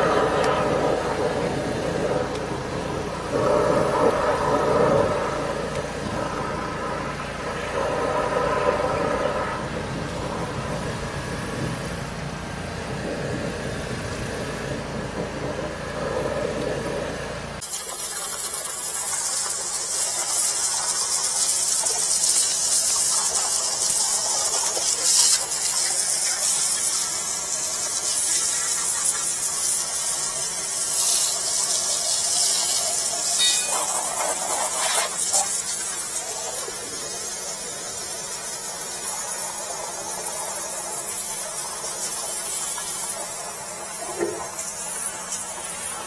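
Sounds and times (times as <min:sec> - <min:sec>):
drain jetter engine running: 0:00.0 - 0:46.0
high-pitched water jet hiss: 0:00.0 - 0:46.0.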